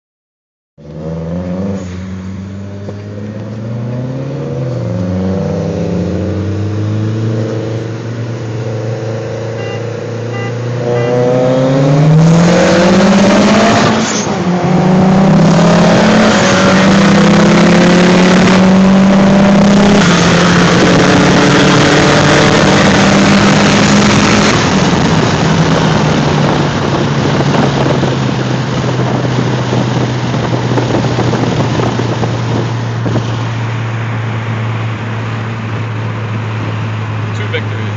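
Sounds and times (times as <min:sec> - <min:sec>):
car engine accelerating hard: 0:00.8 - 0:37.9
wind and road rush: 0:00.8 - 0:37.9.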